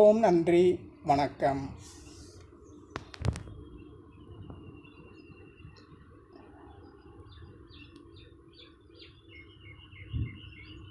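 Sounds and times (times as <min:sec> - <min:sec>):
low background hum: 0:00.0 - 0:10.9
small birds chirping: 0:00.0 - 0:10.9.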